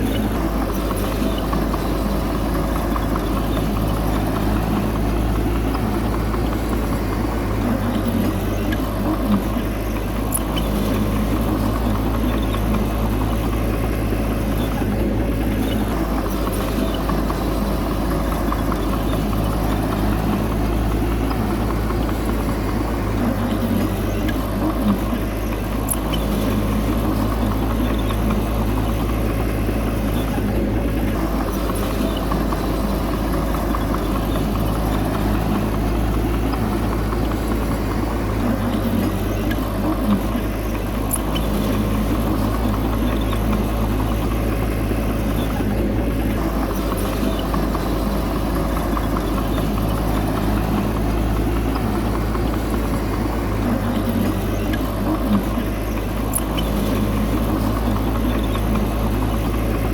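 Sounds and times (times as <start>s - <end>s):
faint clicks: 0.0s - 59.9s
heavy diesel engine running: 0.0s - 59.9s.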